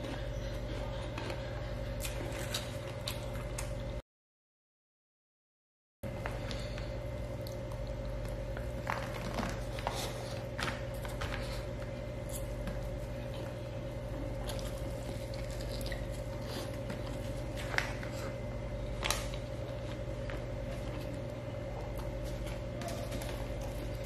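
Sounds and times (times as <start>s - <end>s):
electrical hum: 0.0s - 4.0s, 6.0s - 24.0s.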